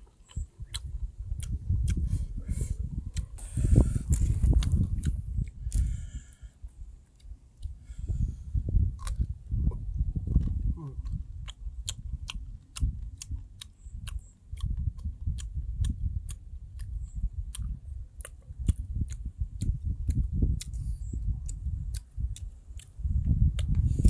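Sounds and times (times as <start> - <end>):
person chewing food noisily: 0.0 - 24.0.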